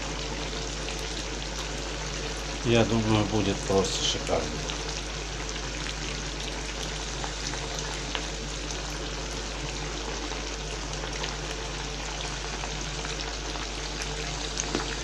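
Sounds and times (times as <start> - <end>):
sauce bubbling and sizzling: 0.0 - 15.0.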